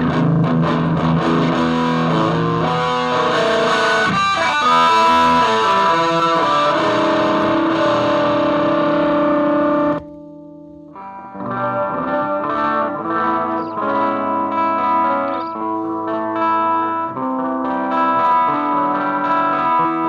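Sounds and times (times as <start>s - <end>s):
distorted electric guitar: 0.0s - 20.0s.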